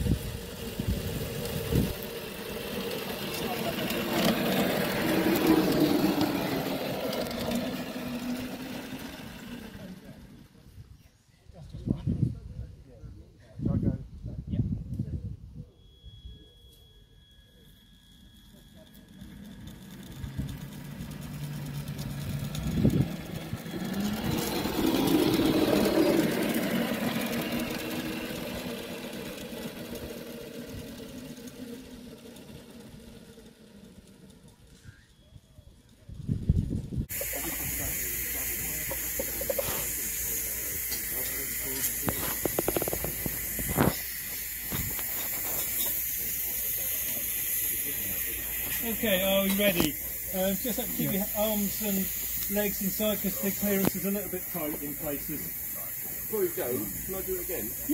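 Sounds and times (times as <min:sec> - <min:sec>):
miniature locomotive motor running: 0:00.0 - 0:10.8, 0:16.2 - 0:57.9.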